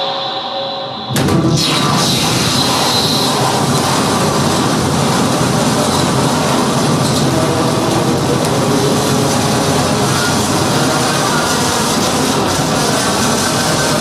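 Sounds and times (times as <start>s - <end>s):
distorted electronic noise music: 0.0s - 14.0s.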